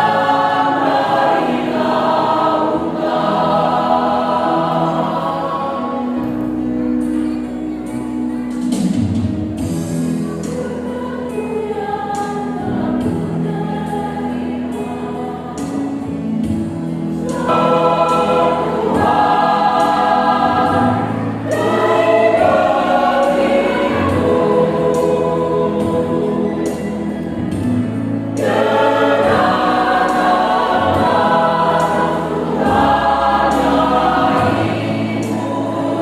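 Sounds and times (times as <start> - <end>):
choir singing: 0.0 - 8.9, 9.6 - 36.0.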